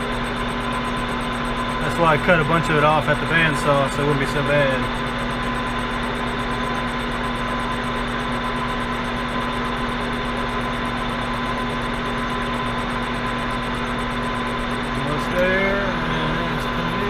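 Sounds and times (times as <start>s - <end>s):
metal shaper motor hum: 0.0s - 17.0s.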